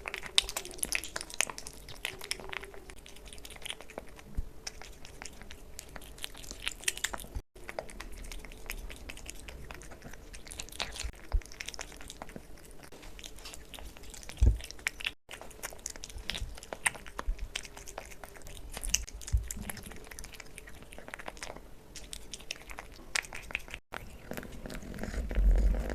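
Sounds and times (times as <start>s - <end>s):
kitten chewing and licking: 0.0s - 25.9s.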